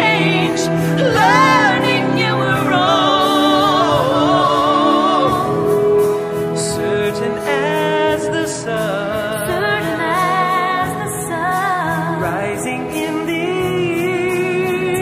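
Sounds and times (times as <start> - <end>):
person singing over music: 0.0 - 15.0.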